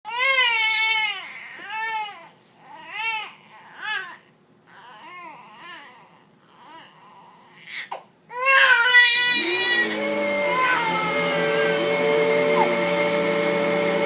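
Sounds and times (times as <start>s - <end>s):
baby crying: 0.1s - 12.9s.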